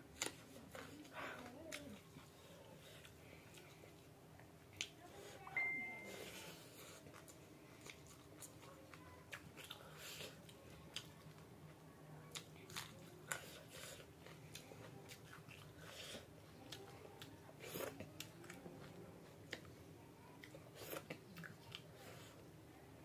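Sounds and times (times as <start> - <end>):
person chewing food: 0.0 - 5.4, 6.1 - 19.8, 20.4 - 22.5.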